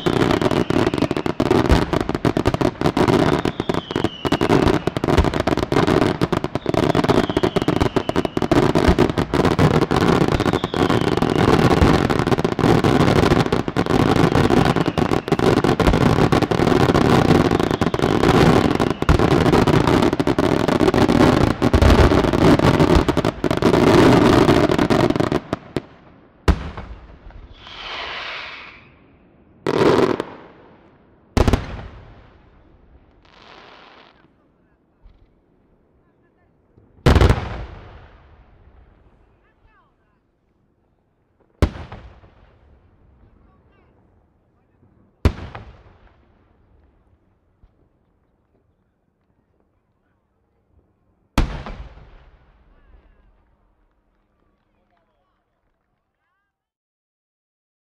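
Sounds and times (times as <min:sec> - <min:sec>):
fireworks bursting: 0:00.0 - 0:35.7, 0:36.6 - 0:39.9, 0:41.4 - 0:50.3, 0:51.3 - 0:55.4.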